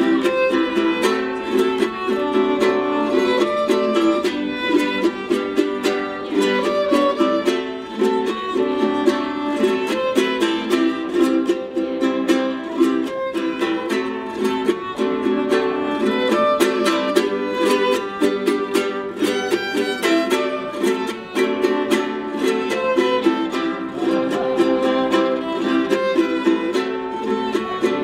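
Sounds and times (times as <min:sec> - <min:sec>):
plucked string instruments: 0:00.0 - 0:28.0.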